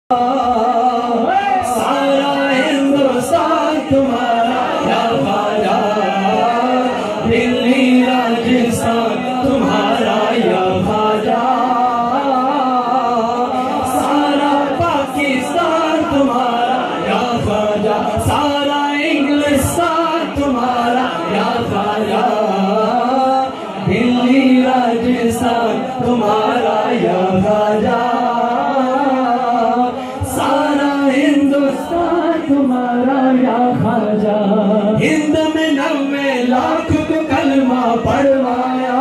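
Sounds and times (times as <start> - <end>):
man singing into a microphone: 0.1 - 39.0.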